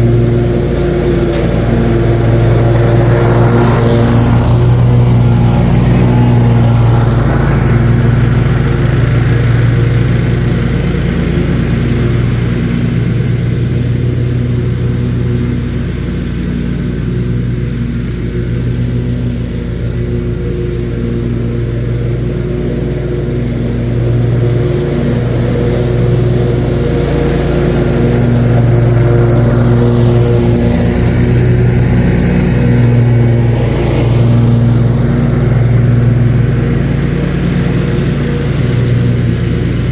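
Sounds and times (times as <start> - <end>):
lawn mower engine cutting grass: 0.0 - 39.9.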